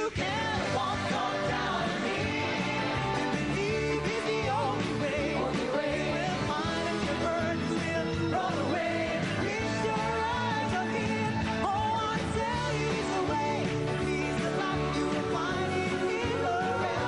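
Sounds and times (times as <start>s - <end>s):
band with steady beat and bass: 0.0s - 17.0s
voices singing worship music: 0.0s - 17.0s.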